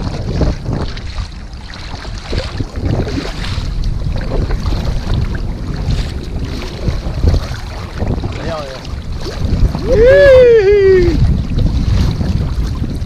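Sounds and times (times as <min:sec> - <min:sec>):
water splashing around kayak: 0:00.0 - 0:13.0
wind buffeting microphone: 0:00.0 - 0:13.0.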